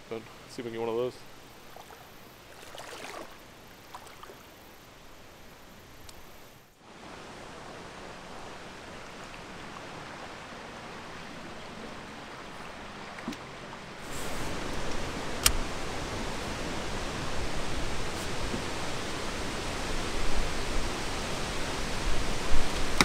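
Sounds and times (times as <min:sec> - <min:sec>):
creek water flowing: 0:00.0 - 0:23.0.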